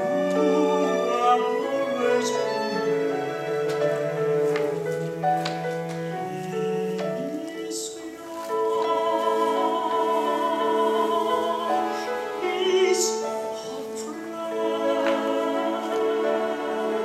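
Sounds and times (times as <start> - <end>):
small orchestra playing: 0.0 - 17.0.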